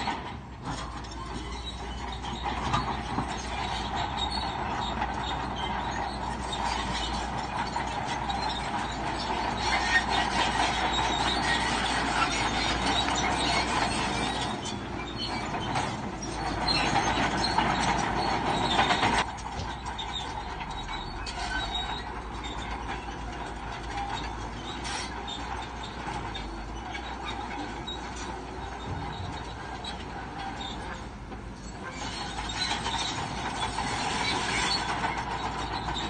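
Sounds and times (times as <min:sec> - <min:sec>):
bulldozer engine running: 0:00.0 - 0:36.0
crawler tracks squealing and clanking: 0:00.0 - 0:36.0.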